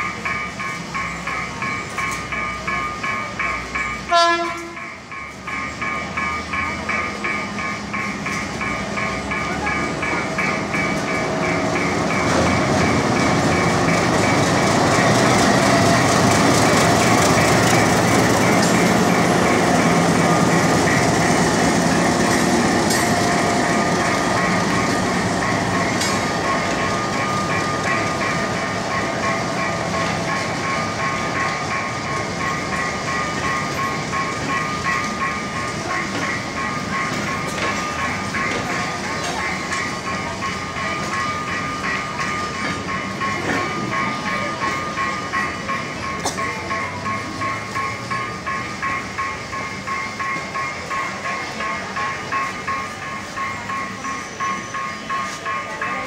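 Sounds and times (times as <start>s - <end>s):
diesel locomotive engine running: 0.0s - 56.0s
level-crossing warning bell ringing: 0.0s - 56.0s
train wheels clicking over rail joints: 0.0s - 56.0s.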